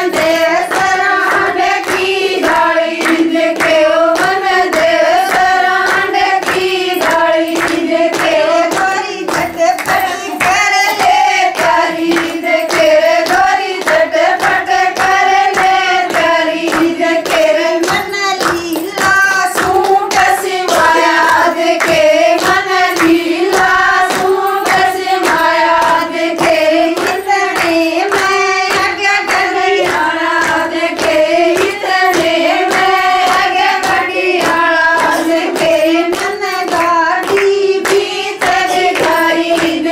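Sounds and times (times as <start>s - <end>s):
rhythmic handclapping: 0.0s - 39.9s
women singing folk song: 0.0s - 39.9s.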